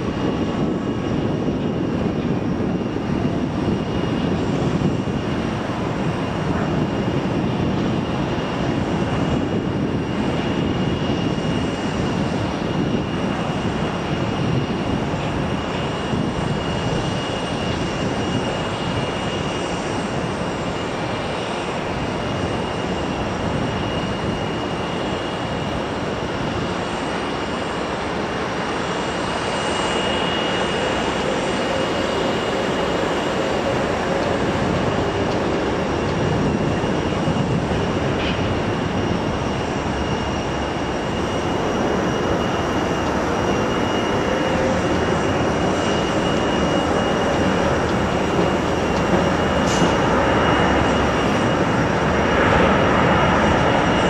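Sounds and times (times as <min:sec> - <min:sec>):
jet engine high-pitched whine: 0:00.0 - 0:54.0
jet engine rumble: 0:00.0 - 0:54.0.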